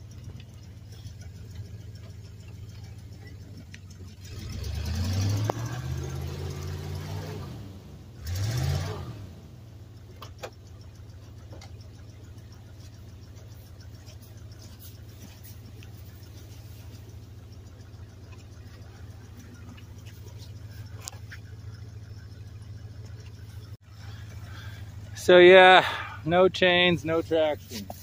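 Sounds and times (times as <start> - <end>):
pickup engine idling and revving: 0.0 - 28.0.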